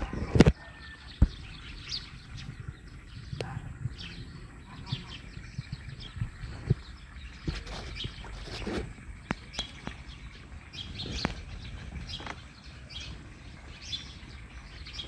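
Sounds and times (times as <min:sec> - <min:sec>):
birds chirping: 0:00.0 - 0:15.0
rural background noise: 0:00.0 - 0:15.0.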